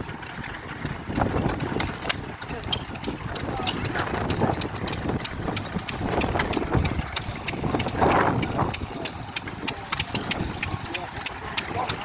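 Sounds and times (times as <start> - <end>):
sharp engine ticks: 0.0 - 12.0
stationary engines running: 0.0 - 12.0.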